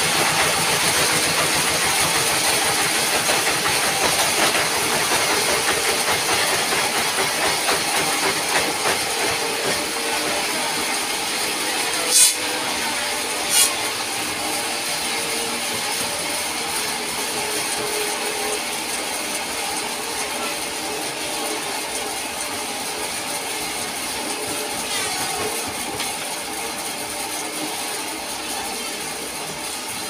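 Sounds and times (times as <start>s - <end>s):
sawmill mechanical drone: 0.0s - 30.0s.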